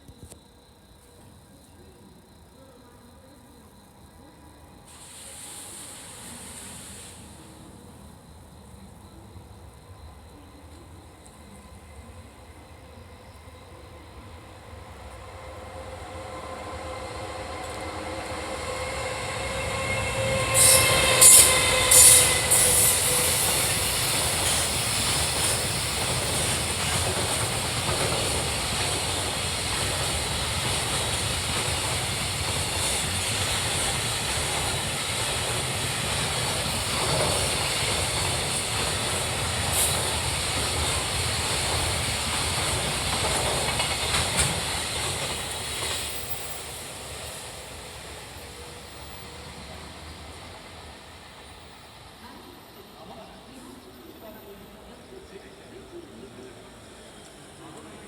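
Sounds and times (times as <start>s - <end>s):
electric locomotive whine: 3.6s - 58.0s.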